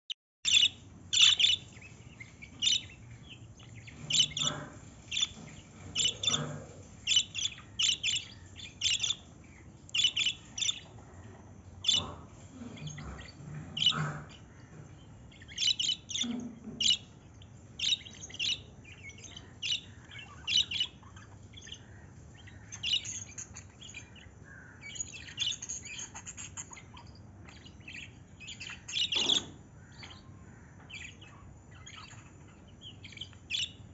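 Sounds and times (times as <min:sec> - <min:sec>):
small bird chirping: 0:00.5 - 0:33.9.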